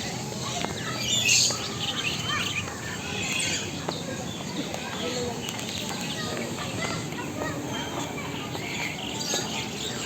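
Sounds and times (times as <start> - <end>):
birds chirping and calling: 0.0 - 10.0.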